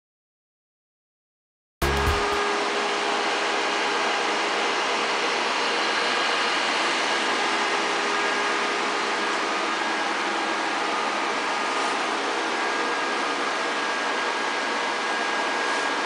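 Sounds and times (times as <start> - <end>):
computer cooling fans whirring: 1.8 - 16.0.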